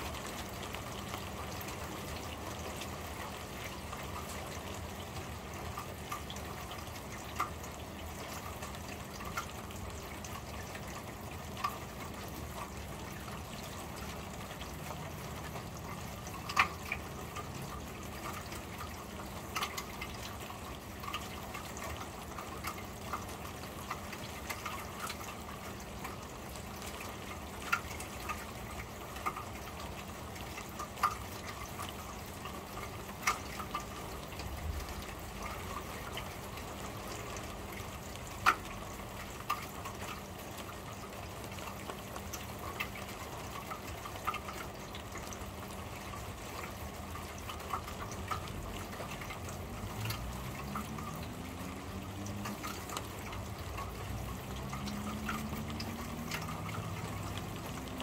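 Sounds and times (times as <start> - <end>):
rain on a metal roof: 0.0 - 58.0
drips and plinks: 0.1 - 58.0.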